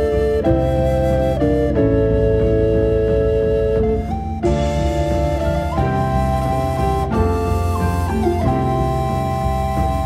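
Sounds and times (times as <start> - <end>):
instrumental music with sustained chords: 0.0 - 10.0.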